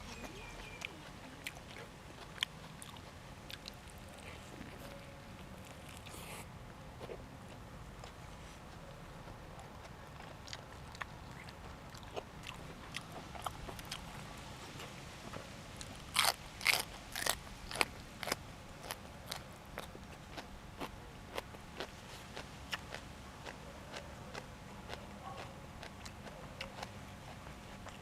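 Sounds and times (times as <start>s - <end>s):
person chewing crunchy vegetables: 0.0s - 15.0s, 15.8s - 28.0s.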